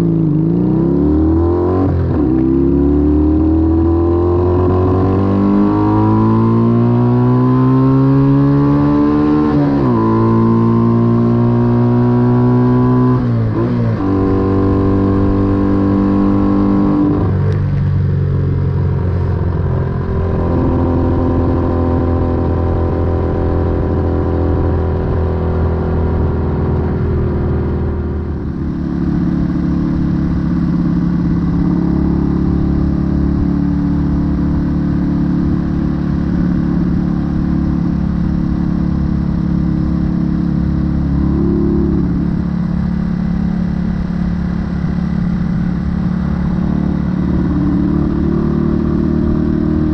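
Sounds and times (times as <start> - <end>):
motorcycle engine and exhaust: 0.0 - 49.9.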